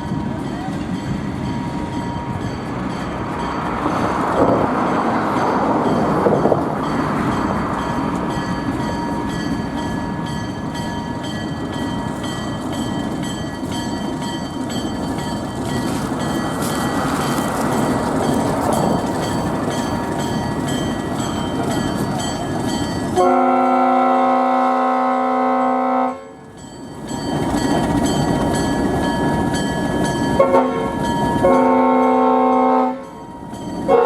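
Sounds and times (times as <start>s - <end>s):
train wheels clicking over rail joints: 0.0s - 23.2s, 26.4s - 31.7s.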